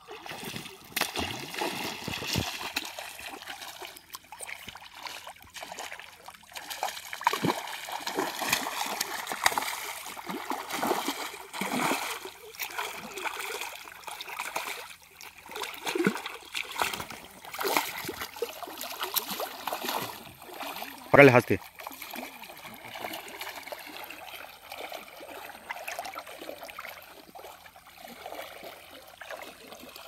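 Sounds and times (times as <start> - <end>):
fish splashing in water: 0.0 - 30.0.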